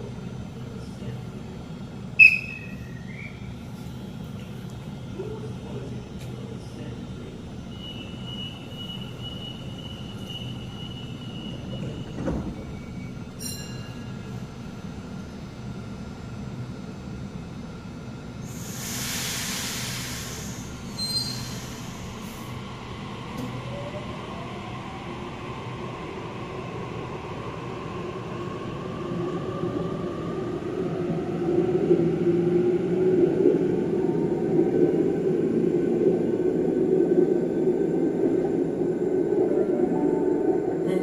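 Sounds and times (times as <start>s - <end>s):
electric train approaching in tunnel: 0.0s - 41.0s.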